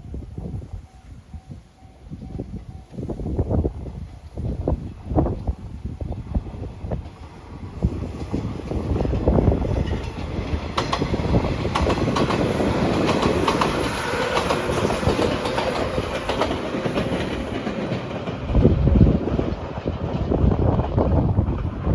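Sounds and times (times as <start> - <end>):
train wheels clacking on rails: 0.9 - 21.9.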